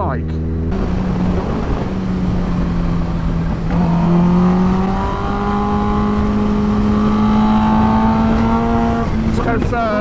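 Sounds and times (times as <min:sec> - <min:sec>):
motorcycle engine accelerating: 0:00.0 - 0:10.0
wind noise: 0:00.4 - 0:10.0.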